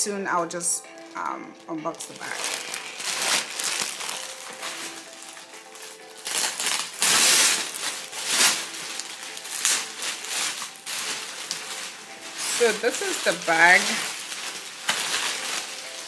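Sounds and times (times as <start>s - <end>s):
plastic wrapping crinkling: 0.0s - 16.0s
soft background music: 0.0s - 16.0s.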